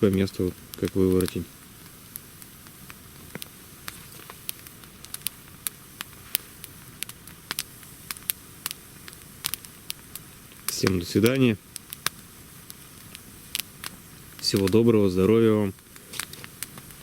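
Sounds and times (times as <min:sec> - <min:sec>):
wet wood campfire crackling: 0:00.0 - 0:17.0.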